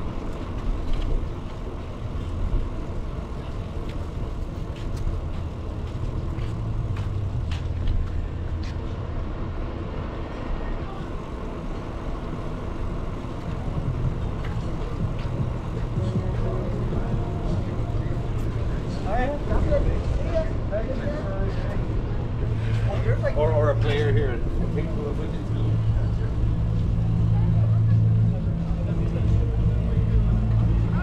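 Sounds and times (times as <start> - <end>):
bicycle rumble: 0.0 - 31.0.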